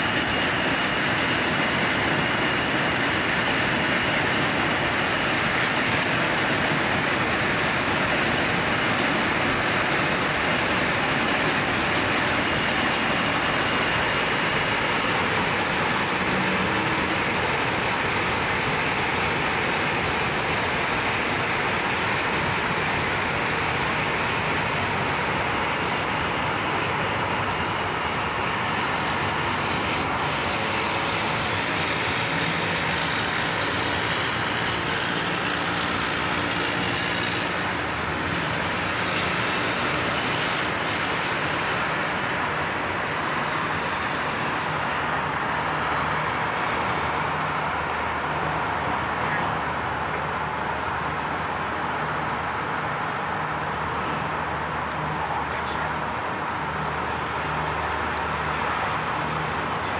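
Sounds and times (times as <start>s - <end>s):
diesel train engine hum: 0.0s - 59.9s
wheels and rails hissing: 0.0s - 59.9s.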